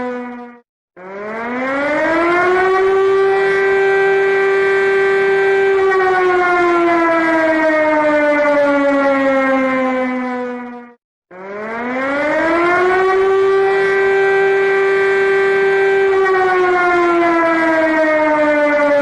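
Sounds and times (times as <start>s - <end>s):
air-raid siren winding: 0.0s - 7.3s, 10.5s - 19.0s.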